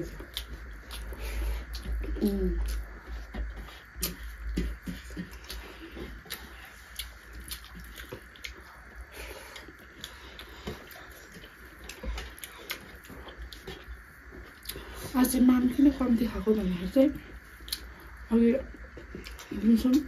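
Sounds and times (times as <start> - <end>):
chewing with wet mouth clicks: 0.0 - 15.2, 17.2 - 18.1, 18.7 - 20.0.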